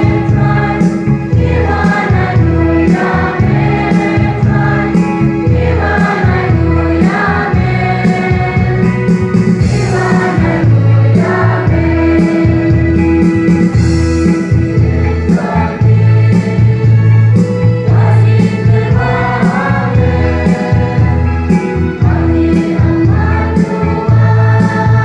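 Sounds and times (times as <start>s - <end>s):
choir singing a hymn: 0.0s - 25.0s
instrumental accompaniment: 0.0s - 25.0s.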